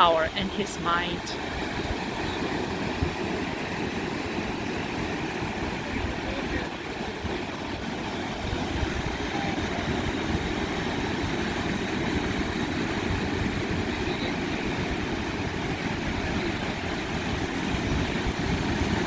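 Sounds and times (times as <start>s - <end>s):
ocean waves rumbling: 0.0s - 19.0s.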